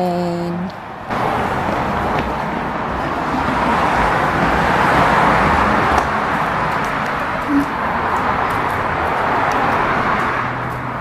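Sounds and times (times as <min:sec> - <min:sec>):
electric train rushing: 0:01.1 - 0:10.6.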